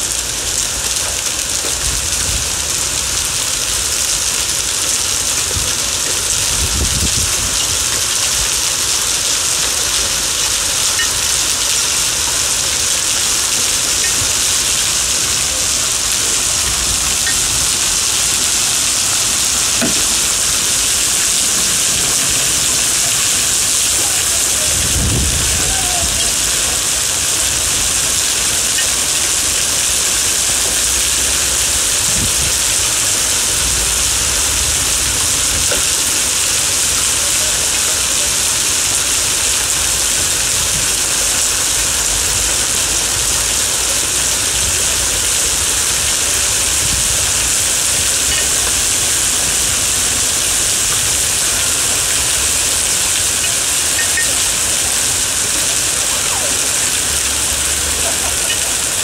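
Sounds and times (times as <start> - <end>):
heavy rain and hail on paving: 0.0 - 59.0.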